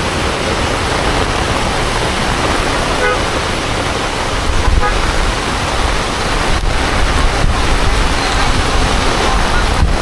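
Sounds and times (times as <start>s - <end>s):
heavy rain pouring: 0.0s - 10.0s
traffic on wet road: 0.0s - 10.0s.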